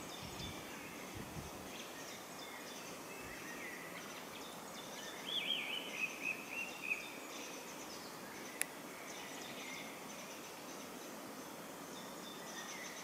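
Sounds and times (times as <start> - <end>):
outdoor background noise: 0.0 - 13.0
songbirds singing and calling: 0.0 - 13.0.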